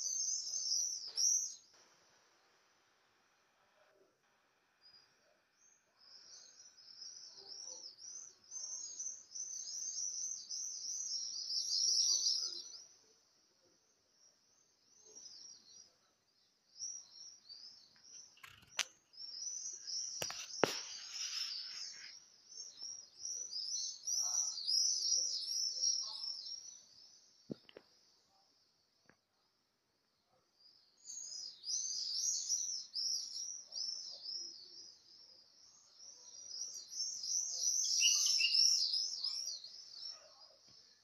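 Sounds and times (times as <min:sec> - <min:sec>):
flock of small birds chirping: 0:00.0 - 0:01.7, 0:04.8 - 0:29.1, 0:30.6 - 0:41.0.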